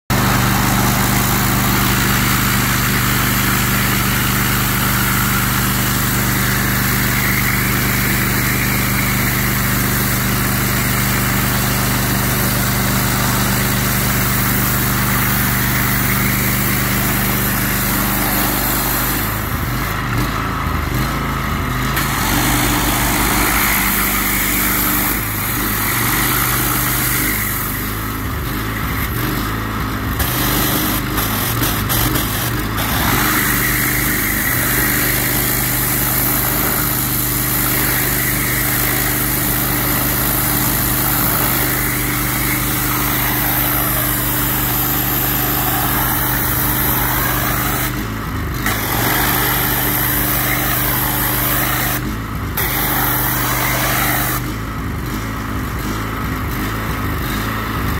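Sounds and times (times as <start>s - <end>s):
pressure washer engine running: 0.0s - 57.9s
water jet spray hiss: 0.9s - 19.5s, 22.0s - 28.1s, 30.2s - 54.5s.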